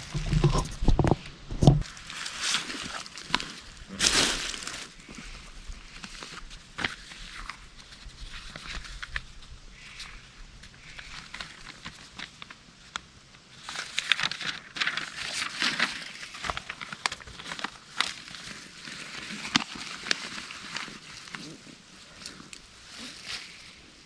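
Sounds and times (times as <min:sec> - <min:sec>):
paper crinkling and rustling: 0:01.8 - 0:23.8.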